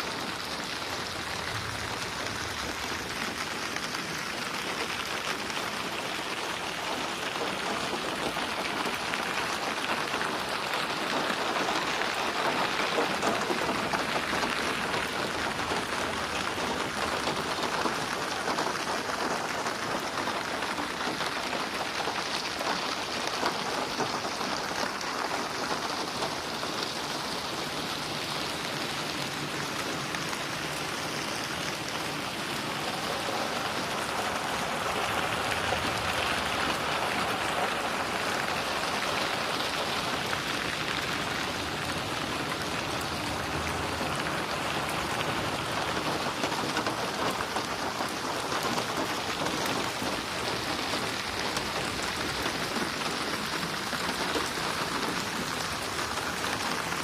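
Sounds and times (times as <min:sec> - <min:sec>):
rain pattering and splashing: 0:00.0 - 0:57.0.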